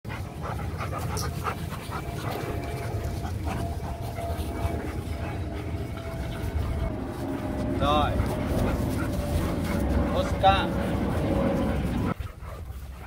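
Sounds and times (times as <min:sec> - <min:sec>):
dogs panting: 0:00.1 - 0:13.0
steady low rumble: 0:00.1 - 0:13.0
dogs scuffling: 0:00.3 - 0:13.0.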